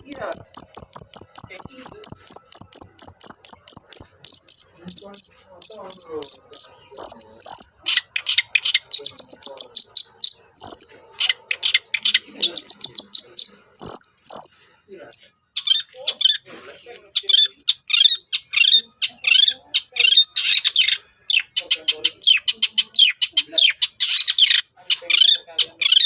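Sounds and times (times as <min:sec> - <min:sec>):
bird singing rapid trills: 0:00.0 - 0:16.4, 0:17.2 - 0:26.0.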